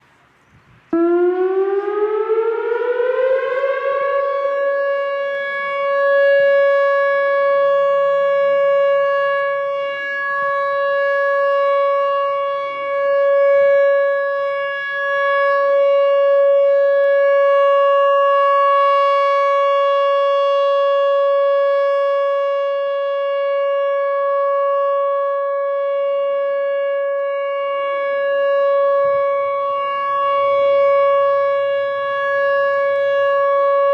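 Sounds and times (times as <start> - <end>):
emergency alert siren wailing: 0.9 - 33.9.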